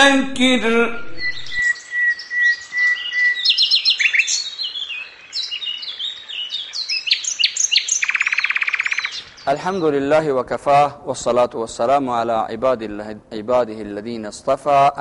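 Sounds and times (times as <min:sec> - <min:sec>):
songbirds chirping and singing: 0:00.0 - 0:12.2.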